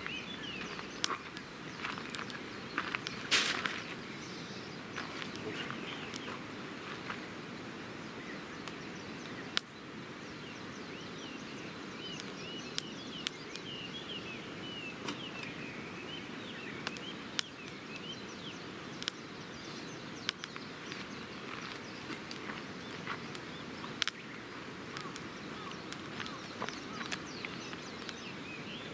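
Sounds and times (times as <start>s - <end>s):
bird twittering: 0.0s - 6.4s, 10.8s - 28.9s
campfire crackling and popping: 0.4s - 10.4s, 11.0s - 28.9s.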